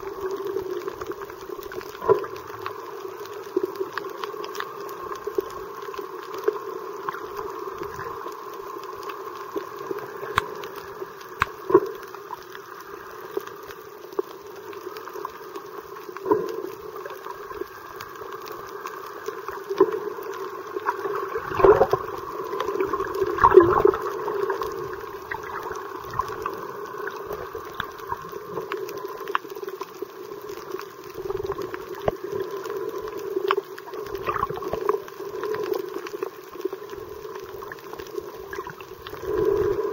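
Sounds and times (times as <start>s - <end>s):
gurgling surges of water: 0.0s - 12.6s, 14.7s - 39.9s
faint clicks: 0.0s - 39.9s
muffled underwater water noise: 0.0s - 39.9s.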